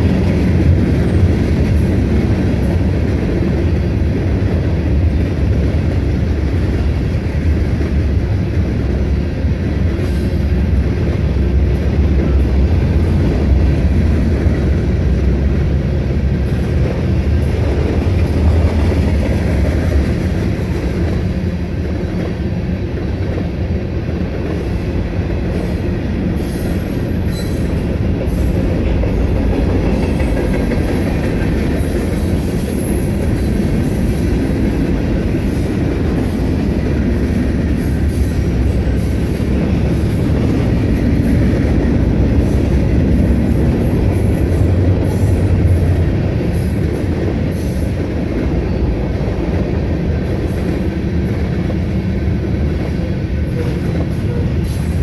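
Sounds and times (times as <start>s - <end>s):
train rumbling past: 0.0s - 55.0s
train wheels on rails: 0.0s - 55.0s.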